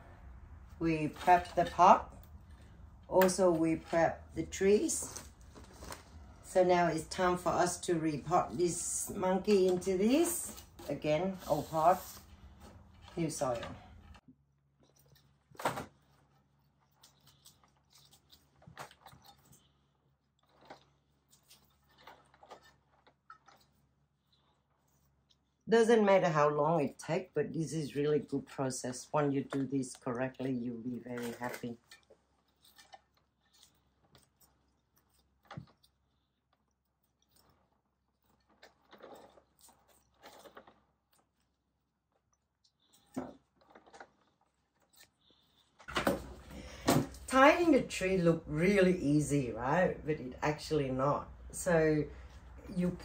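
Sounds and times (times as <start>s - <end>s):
low crunching and rustling: 0.0s - 25.6s, 30.0s - 47.4s.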